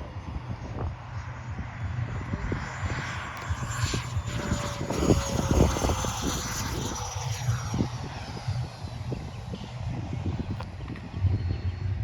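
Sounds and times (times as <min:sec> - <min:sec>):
model jet whine: 0:00.0 - 0:12.0
wind buffeting microphone: 0:00.0 - 0:12.0.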